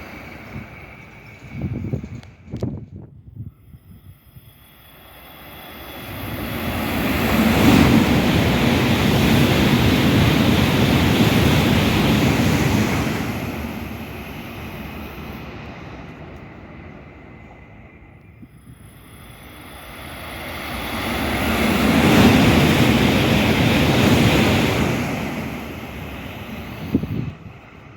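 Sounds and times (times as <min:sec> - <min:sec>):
high-speed train passing: 0:00.0 - 0:27.9.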